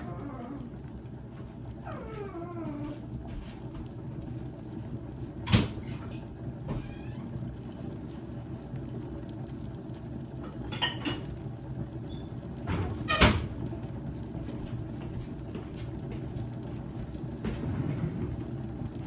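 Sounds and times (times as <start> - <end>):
covered pot bubbling: 0.0 - 19.0.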